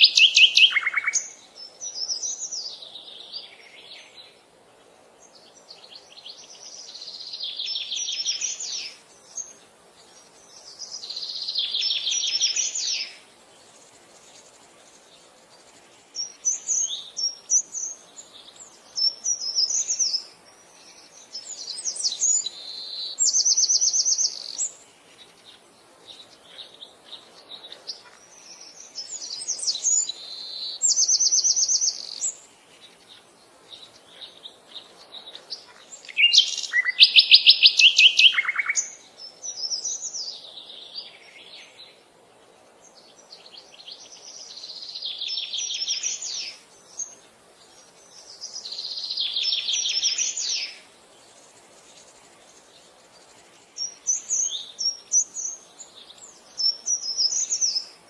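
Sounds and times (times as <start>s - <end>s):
songbirds trilling: 0.0s - 58.0s.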